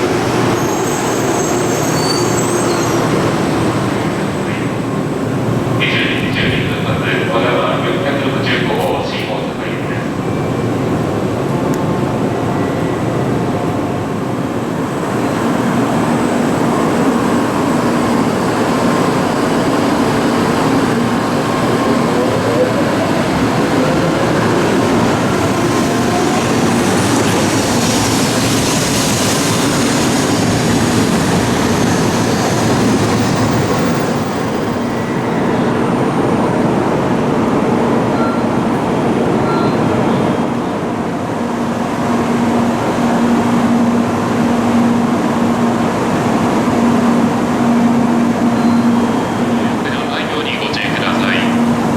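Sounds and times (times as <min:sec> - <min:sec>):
train running noise from inside: 0:00.0 - 0:51.9.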